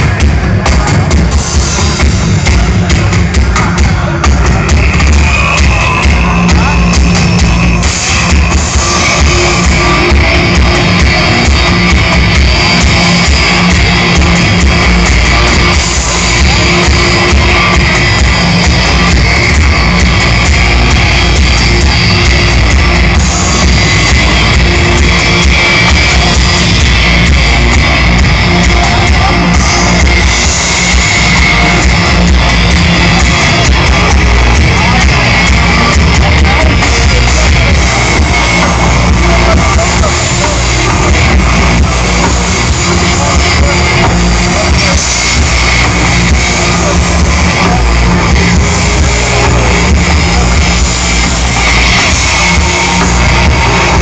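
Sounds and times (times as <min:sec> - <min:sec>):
live rock music with singing: 0:00.0 - 0:54.0.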